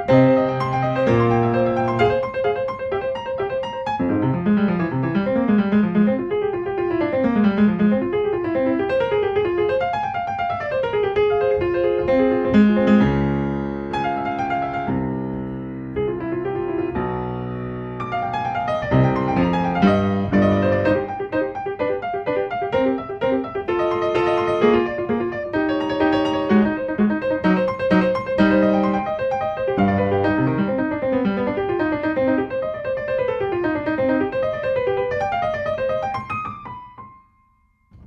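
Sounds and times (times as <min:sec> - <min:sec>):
solo piano music: 0:00.0 - 0:38.0.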